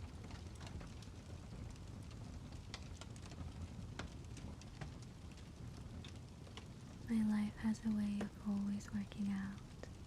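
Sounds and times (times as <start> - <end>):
raindrops pattering close by: 0.0 - 10.0
steady rain falling: 0.0 - 10.0.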